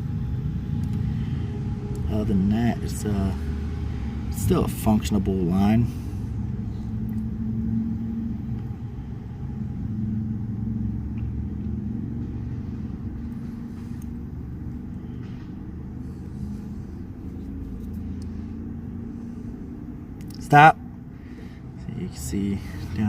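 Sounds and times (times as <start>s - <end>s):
low mechanical rumble: 0.0s - 23.0s.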